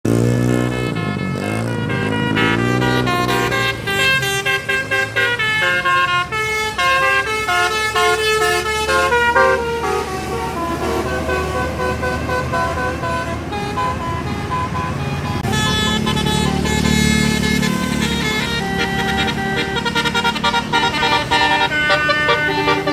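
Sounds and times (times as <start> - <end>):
engine rumble: 0.0 - 22.9
low horn tone: 0.1 - 22.9
multi-tone musical air horn melody: 0.1 - 22.9.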